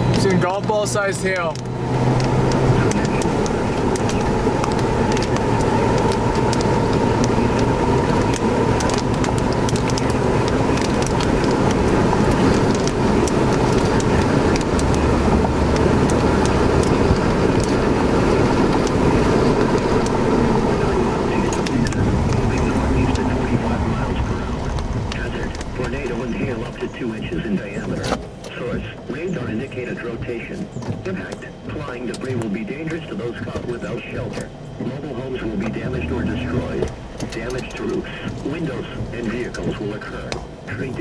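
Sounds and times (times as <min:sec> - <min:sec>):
car road and engine noise: 0:00.0 - 0:41.0.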